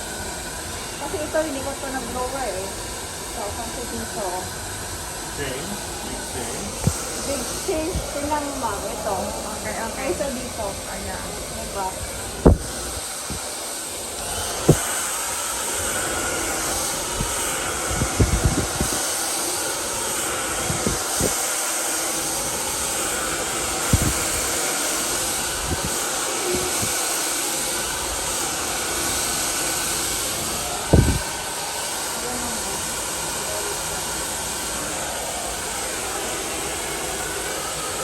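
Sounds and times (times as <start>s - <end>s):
hair dryer running: 0.0s - 38.0s.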